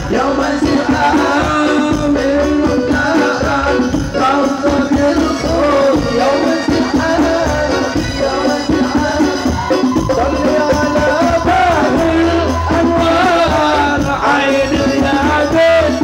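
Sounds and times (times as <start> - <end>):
band with rattling percussion: 0.0 - 16.0
person singing melody: 0.0 - 16.0.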